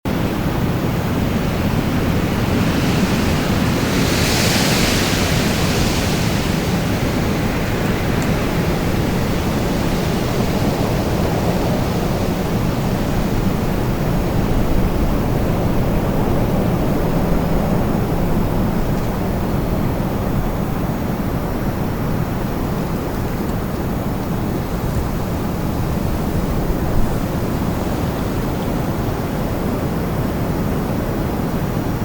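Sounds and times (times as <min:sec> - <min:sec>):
strong wind blowing: 0:00.0 - 0:32.0.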